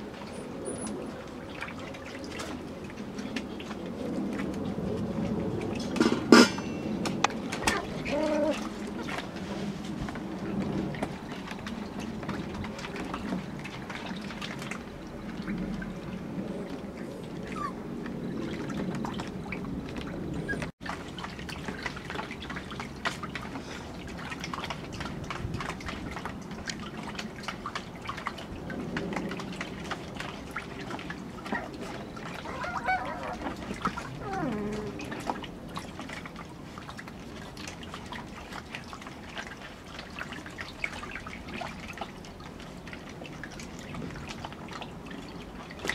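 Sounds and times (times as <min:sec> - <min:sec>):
puppies splashing in water: 0:00.0 - 0:45.9.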